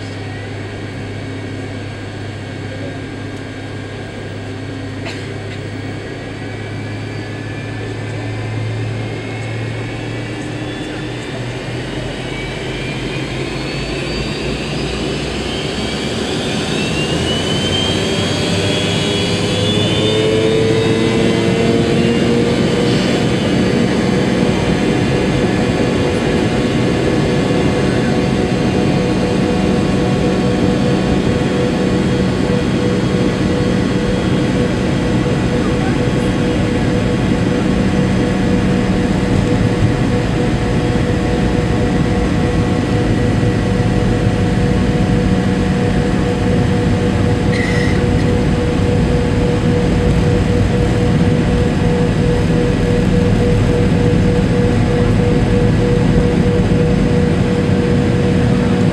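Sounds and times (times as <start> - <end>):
jet engines spooling up: 0.0 - 58.9.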